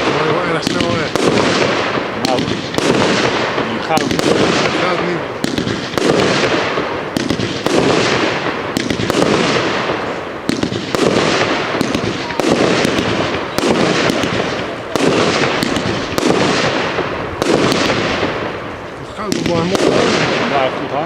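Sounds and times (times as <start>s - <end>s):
firework shots cracking: 0.0s - 21.0s.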